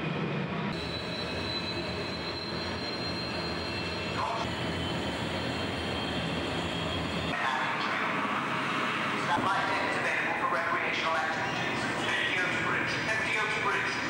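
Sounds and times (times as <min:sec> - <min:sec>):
jet engine roar: 0:00.1 - 0:14.0.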